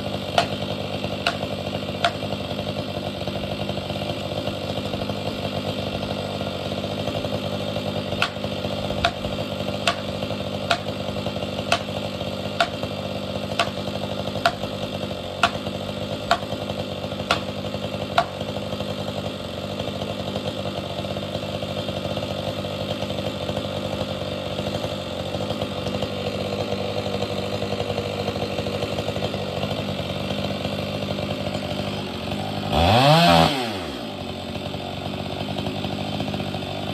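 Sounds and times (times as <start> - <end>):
chainsaw revving: 0.0 - 36.9
chainsaw running: 0.0 - 36.9.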